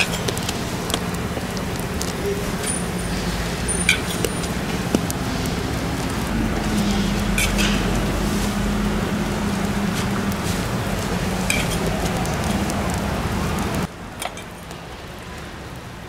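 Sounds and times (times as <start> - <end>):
dough sizzling in oil: 0.0 - 13.9
low hum: 0.0 - 13.9.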